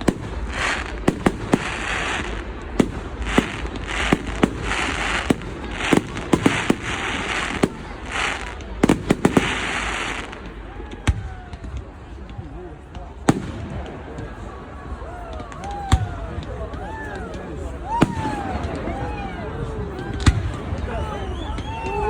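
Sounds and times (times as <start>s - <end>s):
firework bangs: 0.0s - 14.7s, 17.6s - 22.0s.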